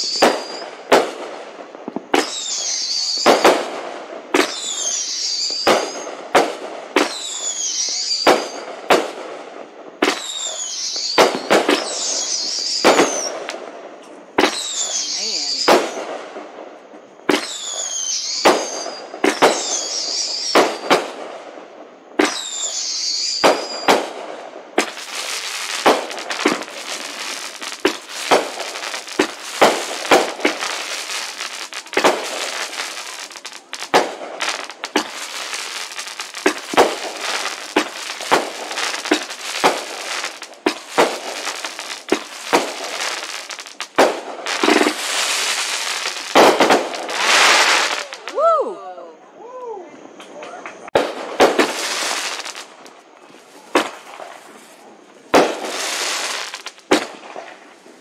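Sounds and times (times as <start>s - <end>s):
firework whistling glides: 0.0s - 1.2s, 2.1s - 3.7s, 4.3s - 8.8s, 10.0s - 13.6s, 14.4s - 16.2s, 17.2s - 21.2s, 22.2s - 24.2s, 24.8s - 48.6s, 50.8s - 57.6s
fireworks bangs: 0.0s - 48.6s, 50.2s - 58.0s
fireworks crackle: 0.0s - 48.6s, 50.2s - 58.0s.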